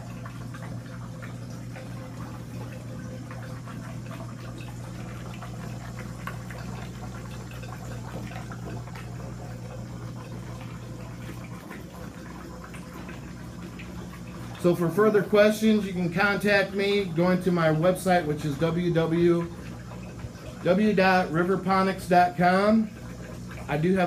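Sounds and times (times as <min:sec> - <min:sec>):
water trickling and bubbling: 0:00.0 - 0:24.0.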